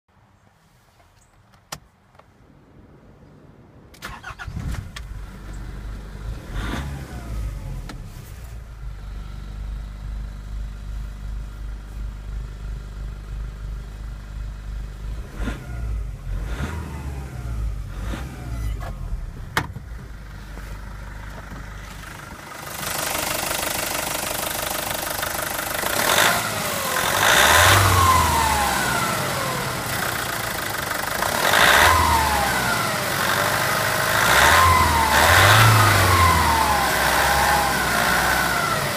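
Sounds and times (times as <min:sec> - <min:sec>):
diesel engine idling and revving: 0:04.1 - 0:38.9.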